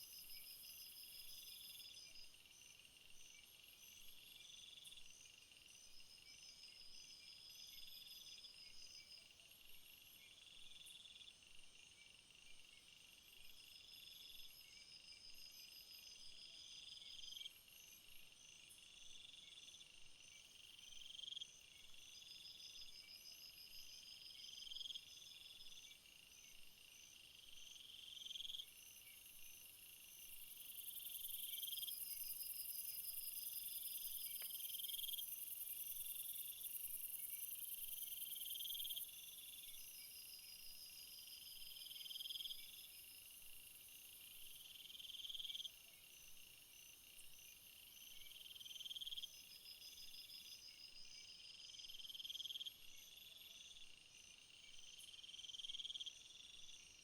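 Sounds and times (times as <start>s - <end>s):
steady high insect trill: 0.0s - 57.0s.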